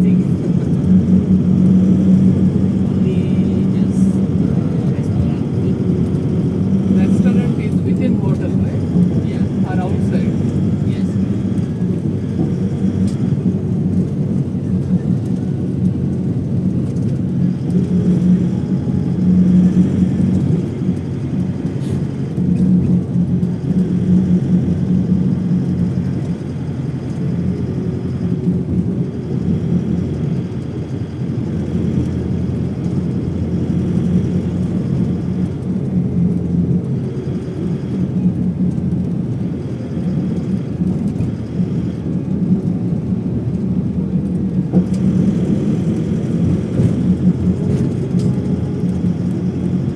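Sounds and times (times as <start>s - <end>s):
vehicle interior rumble: 0.0s - 49.9s.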